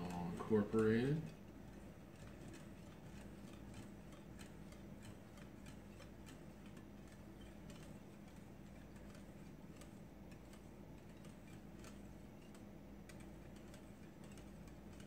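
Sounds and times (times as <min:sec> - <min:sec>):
whisk ticking against glass bowl: 0:00.0 - 0:15.0.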